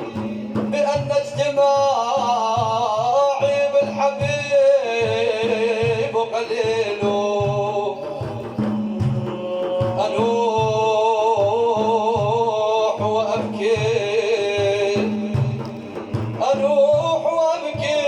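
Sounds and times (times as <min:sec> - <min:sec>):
hand drum beat: 0:00.0 - 0:18.0
man singing melismatic praise: 0:00.0 - 0:18.0.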